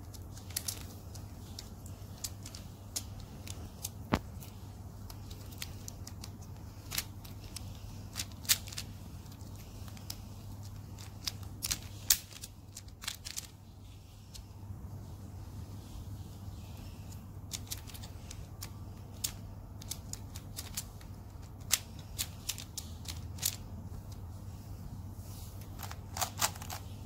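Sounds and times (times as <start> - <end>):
plastic puzzle clicking: 0.0 - 13.6, 17.1 - 24.2, 25.6 - 26.9.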